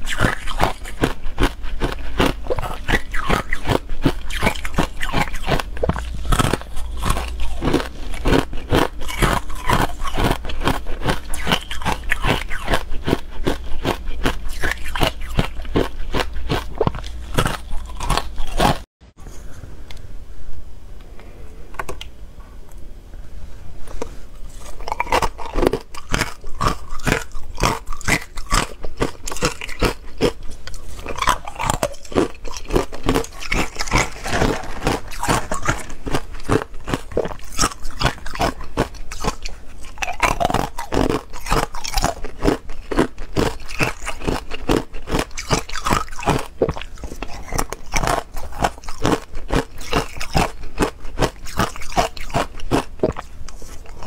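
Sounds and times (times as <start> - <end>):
ice cubes being chewed: 0.0 - 18.8, 24.5 - 54.0.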